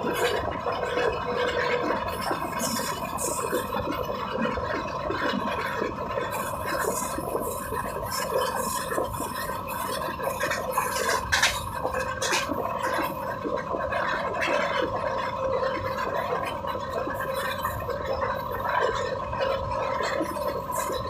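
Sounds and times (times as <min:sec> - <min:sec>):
constant whine: 0:00.0 - 0:21.0
train wheels rattling on rails: 0:00.0 - 0:21.0.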